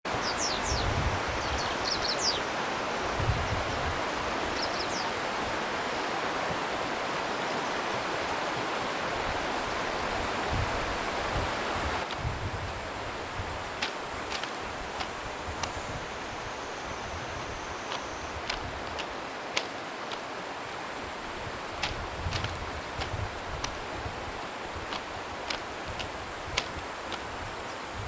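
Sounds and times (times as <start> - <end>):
river water rushing: 0.1 - 28.0.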